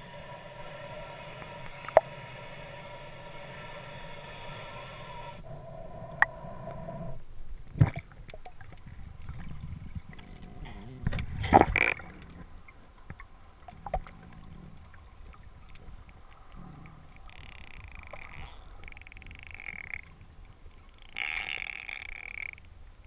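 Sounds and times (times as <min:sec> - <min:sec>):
low steady underwater rumble: 0:00.0 - 0:23.0.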